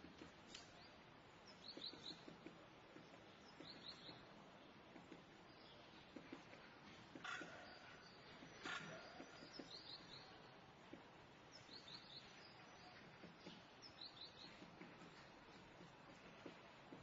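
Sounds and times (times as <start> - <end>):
faint town ambience: 0.0 - 17.0
small birds chirping: 0.0 - 17.0.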